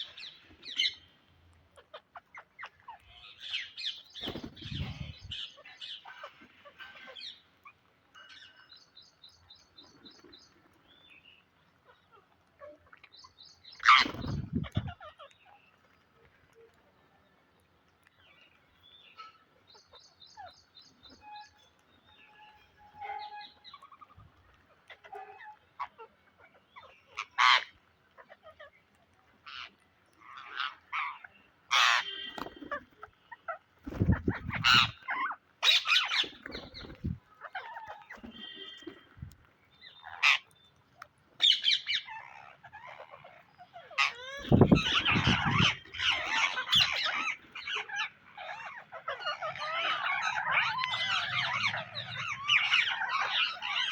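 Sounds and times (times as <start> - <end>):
parakeets squawking and chattering: 0.0 - 16.9, 18.0 - 53.9.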